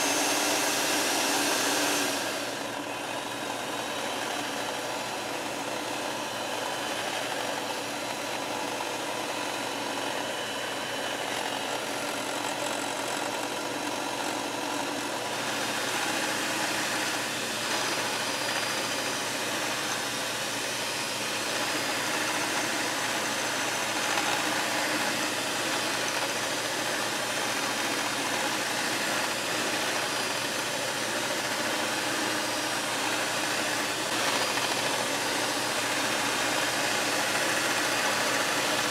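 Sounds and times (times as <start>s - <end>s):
electric mixer whipping cream: 0.0s - 38.9s.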